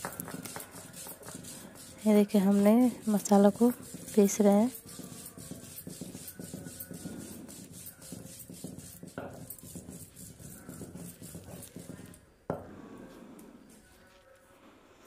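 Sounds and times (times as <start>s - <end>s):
stone grinding on stone: 0.0s - 13.4s.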